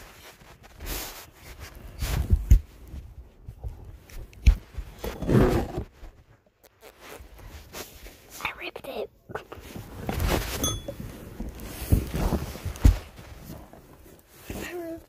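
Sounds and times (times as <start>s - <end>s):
fleece blanket rustling: 0.0s - 8.4s, 9.6s - 15.0s.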